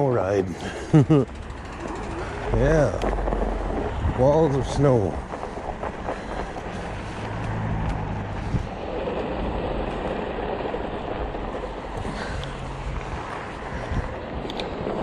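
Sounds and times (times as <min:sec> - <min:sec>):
tyres rolling on snow: 0:00.0 - 0:15.0
low motor hum: 0:00.2 - 0:15.0.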